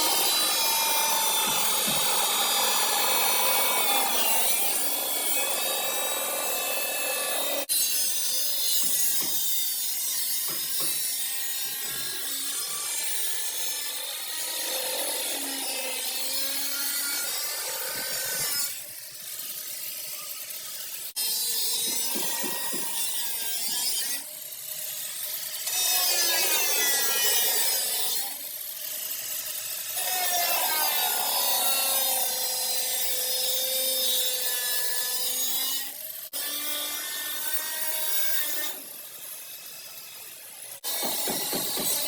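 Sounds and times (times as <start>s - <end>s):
power tool grinding sheet metal: 0.0s - 42.0s.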